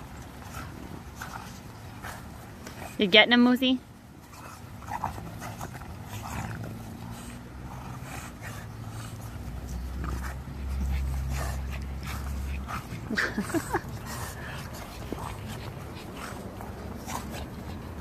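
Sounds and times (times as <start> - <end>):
dogs play-wrestling noises: 0.0 - 18.0.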